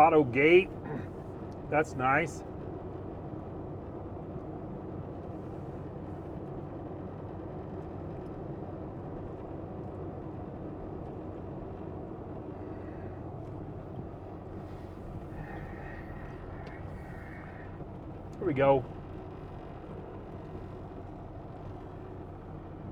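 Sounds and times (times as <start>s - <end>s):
diesel truck engine running: 0.0s - 22.9s.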